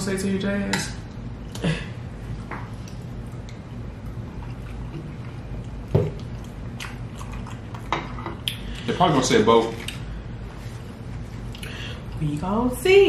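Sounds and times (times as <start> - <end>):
people chewing: 1.4 - 12.2.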